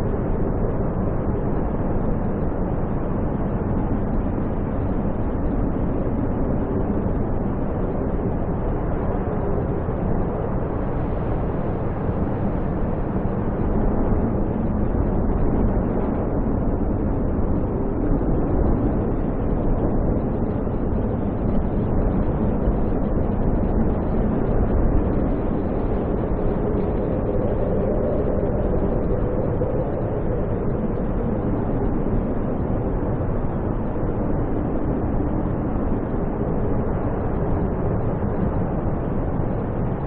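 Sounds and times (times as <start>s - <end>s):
snowstorm wind blowing: 0.0s - 40.0s.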